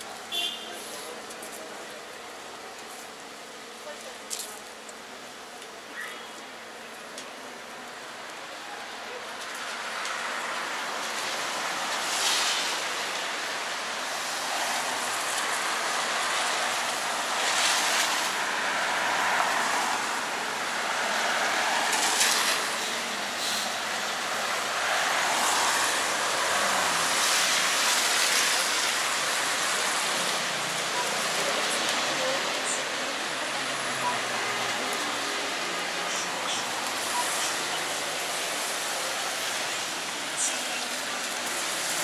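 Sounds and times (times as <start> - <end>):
steady traffic hiss: 0.0 - 42.0
tyres swishing on wet road: 0.0 - 42.0.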